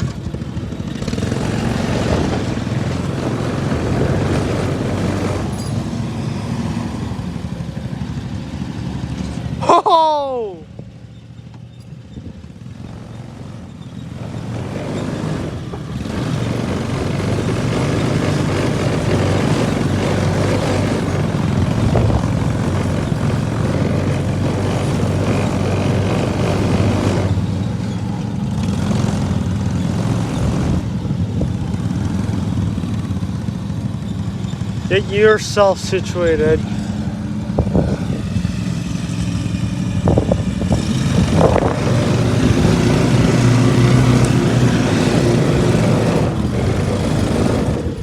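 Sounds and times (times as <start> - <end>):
lawn mower engine running: 0.0 - 48.0.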